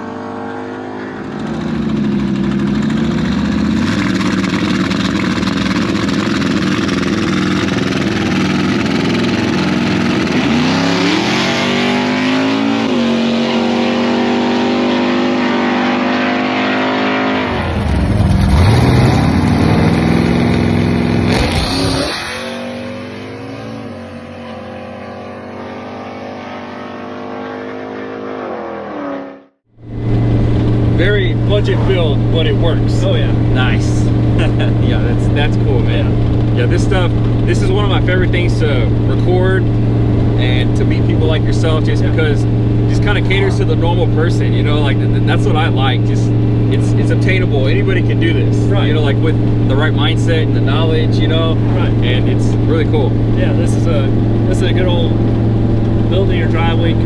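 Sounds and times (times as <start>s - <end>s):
turbocharged engine accelerating: 0.0s - 57.0s.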